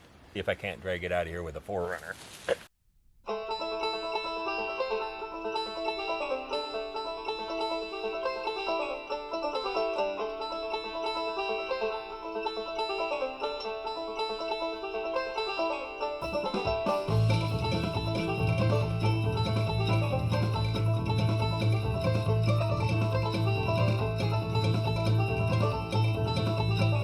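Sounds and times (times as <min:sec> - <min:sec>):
plucked banjo tune: 0:03.3 - 0:27.0.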